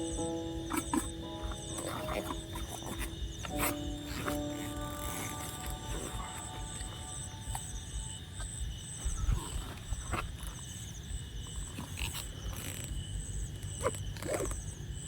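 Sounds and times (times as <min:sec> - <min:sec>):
insects chirping and trilling: 0:00.0 - 0:15.0.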